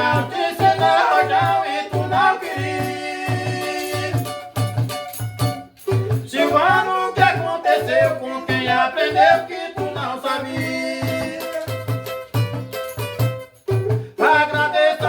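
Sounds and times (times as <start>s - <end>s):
rattle percussion: 0.0s - 15.0s.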